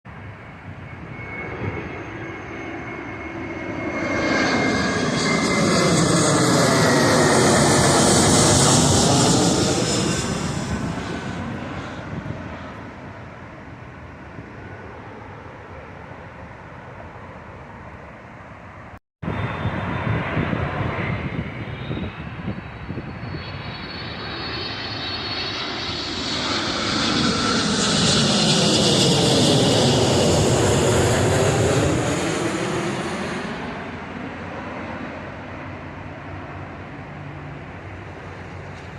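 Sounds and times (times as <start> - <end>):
low-flying airplanes passing: 0.1 - 38.9.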